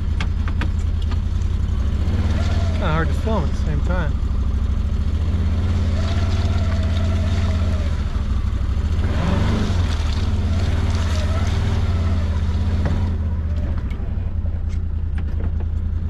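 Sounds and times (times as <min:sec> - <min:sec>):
engine droning with whine: 0:00.0 - 0:16.0.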